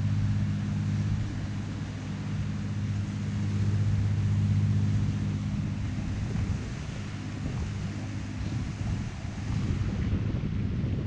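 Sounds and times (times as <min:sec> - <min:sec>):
low engine hum: 0:00.0 - 0:11.0
rushing background noise: 0:00.0 - 0:11.0.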